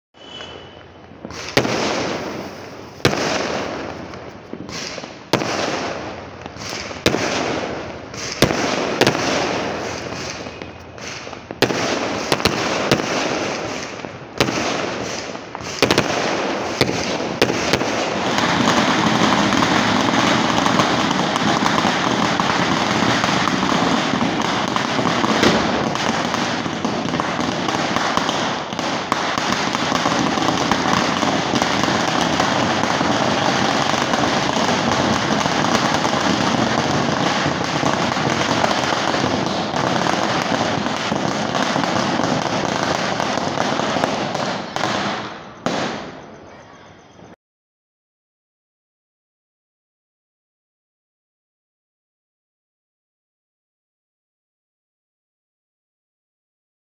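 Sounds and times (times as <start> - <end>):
firework shells bursting: 0.2 - 46.6
firecrackers crackling: 0.2 - 46.8.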